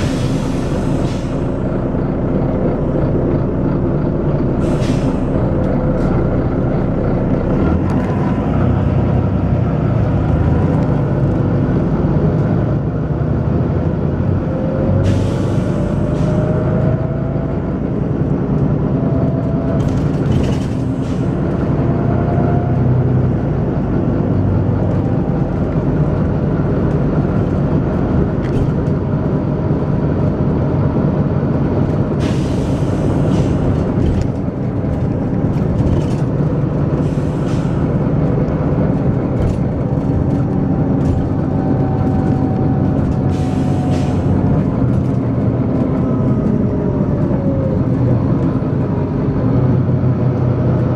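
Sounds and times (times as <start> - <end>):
diesel bus engine thrashing: 0.0 - 12.8, 14.0 - 50.9.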